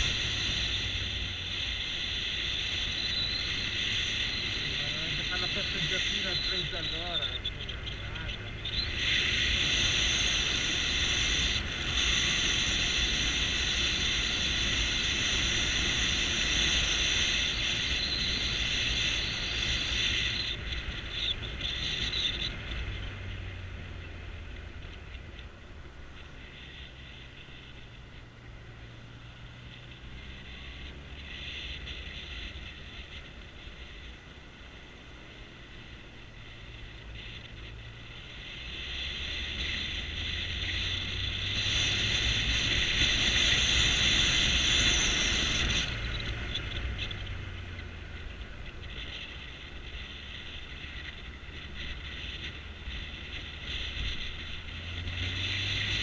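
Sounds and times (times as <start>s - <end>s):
motorcycle engine hum: 0.0s - 56.0s.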